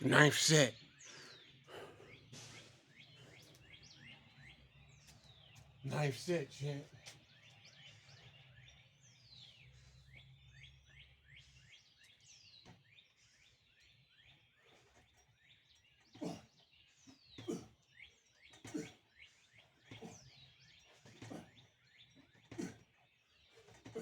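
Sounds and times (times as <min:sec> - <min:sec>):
faint birdsong chirps: 0:00.0 - 0:24.0.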